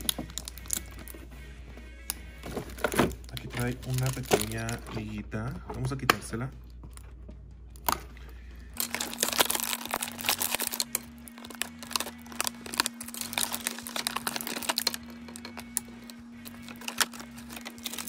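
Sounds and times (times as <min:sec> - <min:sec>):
plastic blister packaging crinkling: 0:00.0 - 0:01.2, 0:02.4 - 0:06.1, 0:06.7 - 0:18.0.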